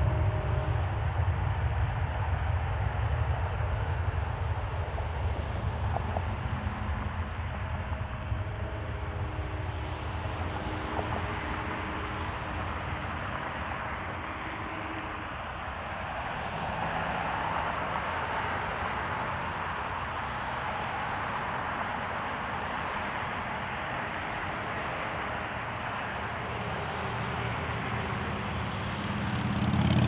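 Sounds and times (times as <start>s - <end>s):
jet airliner engines running: 0.0s - 30.0s
wind rumble on microphone: 0.0s - 30.0s.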